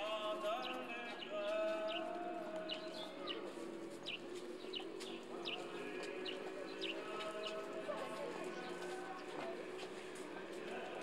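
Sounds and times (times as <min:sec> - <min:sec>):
people's voices: 0:00.0 - 0:11.0.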